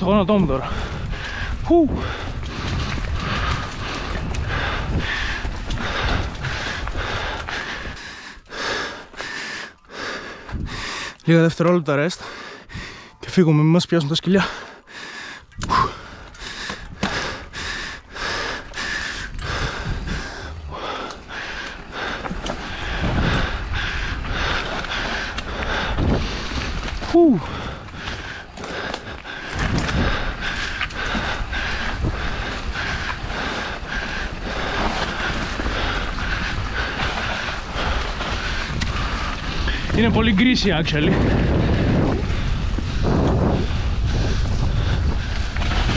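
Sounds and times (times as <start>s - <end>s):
wind rush on microphone: 0.0s - 9.3s, 9.9s - 11.2s, 15.4s - 45.9s
bike rolling on dirt trail: 0.0s - 45.9s
person panting hard: 0.6s - 11.3s, 12.2s - 13.2s, 14.4s - 40.0s, 41.1s - 45.9s.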